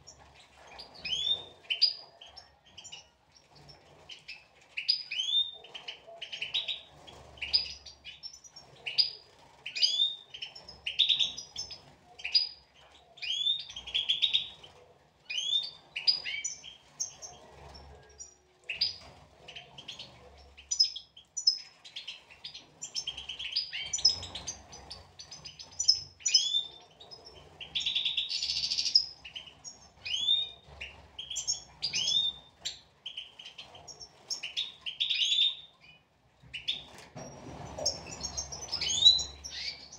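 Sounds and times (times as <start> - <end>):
goldfinches chirping: 0.0 - 12.6, 13.2 - 14.6, 18.2 - 36.0, 36.6 - 39.9.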